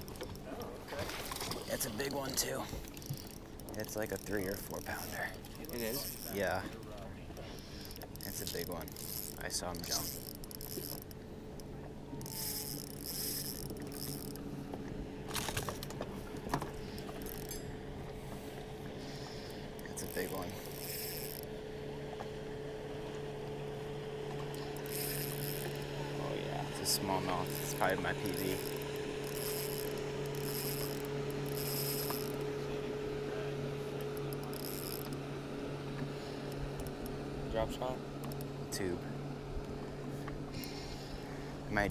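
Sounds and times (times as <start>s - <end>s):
fishing reel gears whirring: 0.0s - 41.9s
steady hum: 0.0s - 41.9s.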